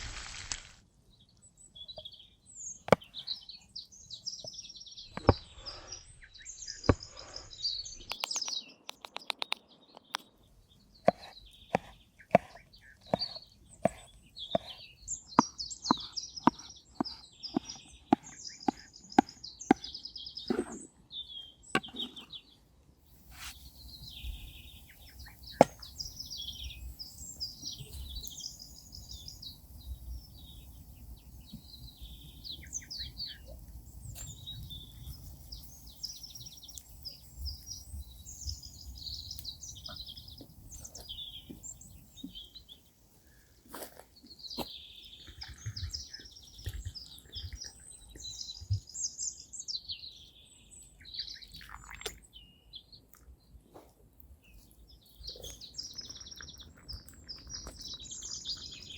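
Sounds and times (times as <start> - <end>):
songbirds chirping and singing: 1.2 - 22.6, 23.6 - 53.6, 54.4 - 58.9.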